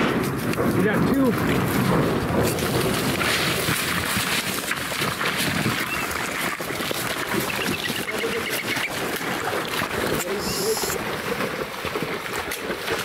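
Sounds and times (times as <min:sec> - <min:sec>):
footsteps splashing through water: 0:01.3 - 0:13.0.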